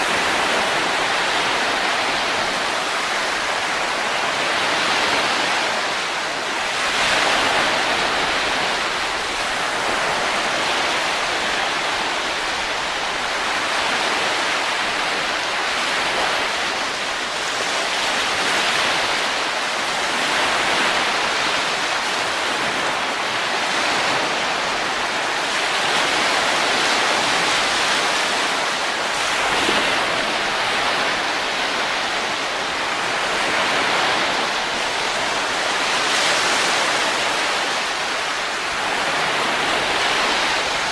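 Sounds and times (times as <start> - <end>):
wind blowing: 0.0 - 40.9.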